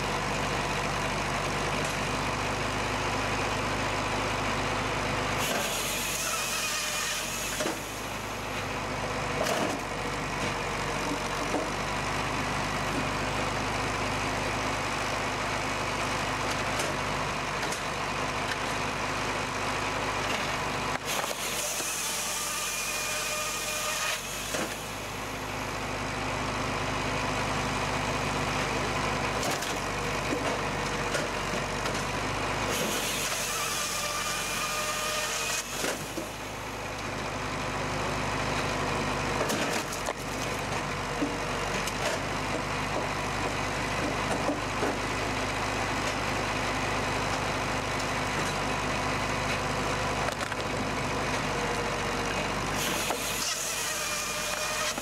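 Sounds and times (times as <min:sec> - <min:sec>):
firewood processor engine drone: 0:00.0 - 0:55.0.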